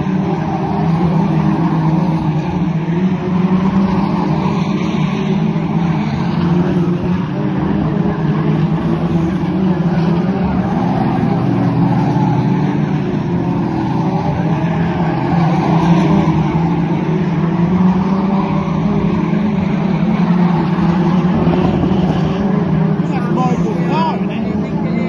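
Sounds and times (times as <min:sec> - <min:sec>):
race car engine running hard: 0:00.0 - 0:25.0.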